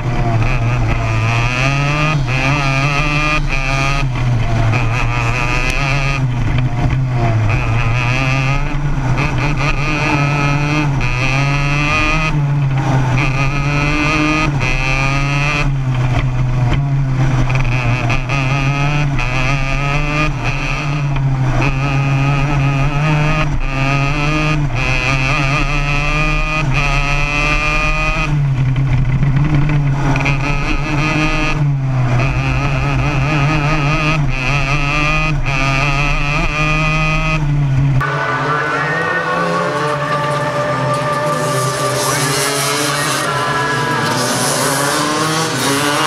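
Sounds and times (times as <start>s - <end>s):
kart engine revving: 0.0s - 46.0s.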